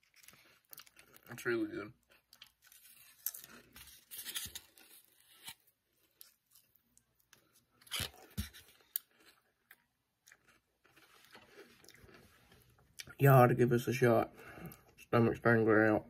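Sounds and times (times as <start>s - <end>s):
potato chips being chewed: 0.0s - 13.2s.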